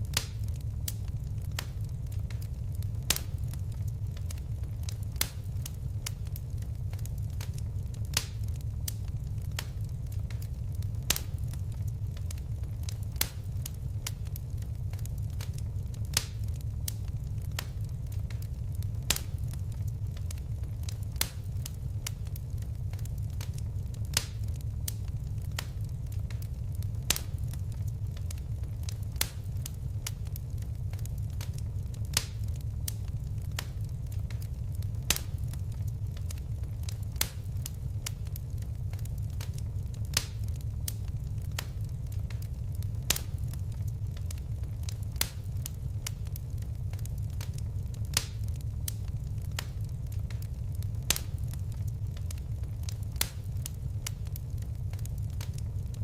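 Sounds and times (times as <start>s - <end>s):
fire crackling: 0.0s - 56.0s
fire popping: 0.0s - 56.0s.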